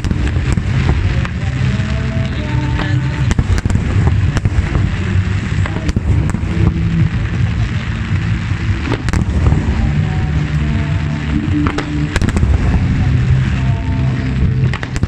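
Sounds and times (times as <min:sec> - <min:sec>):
fireworks launching and exploding: 0:00.0 - 0:15.0
sharp firework cracks: 0:00.0 - 0:15.0.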